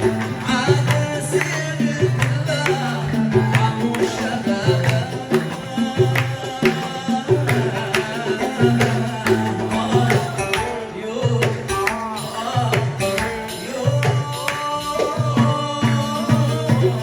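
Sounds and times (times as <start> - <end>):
hand percussion beat: 0.0 - 17.0.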